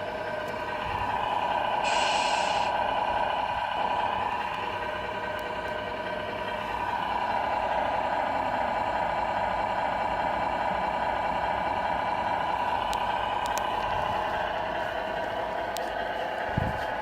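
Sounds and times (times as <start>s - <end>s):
model truck engine drone: 0.0s - 17.0s.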